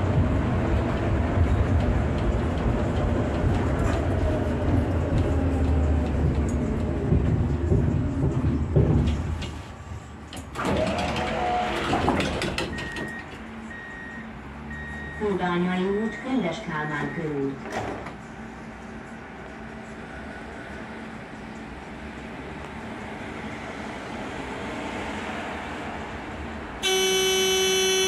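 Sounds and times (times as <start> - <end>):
tram rumbling along track: 0.0 - 28.0.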